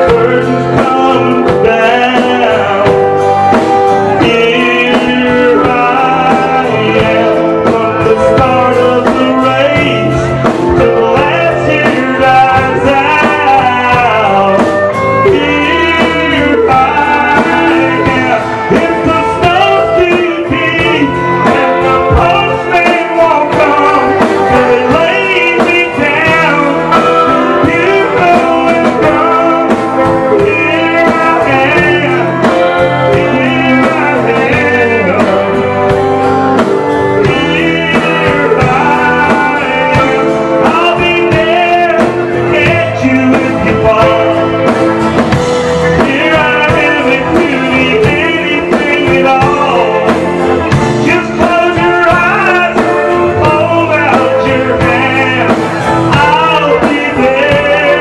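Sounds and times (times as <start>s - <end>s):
live country-blues band: 0.0s - 58.0s.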